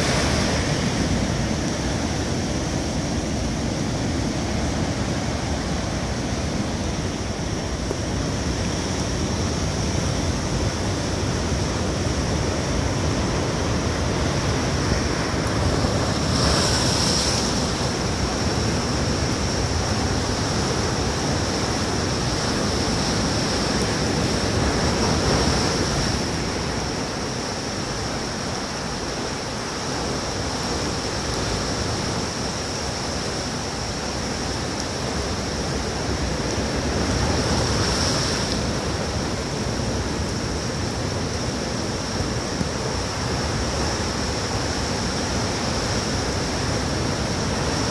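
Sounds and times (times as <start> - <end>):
heavy surf breaking: 0.0 - 7.8, 10.4 - 33.2, 34.3 - 47.9.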